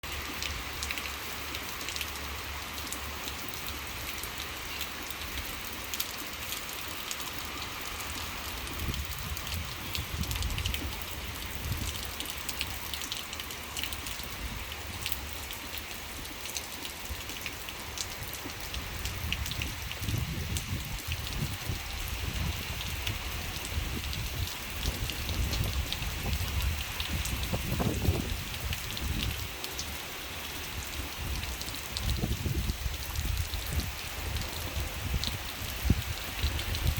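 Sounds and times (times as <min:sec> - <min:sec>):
rain falling: 0:00.0 - 0:36.9
raindrops ticking: 0:00.0 - 0:36.9.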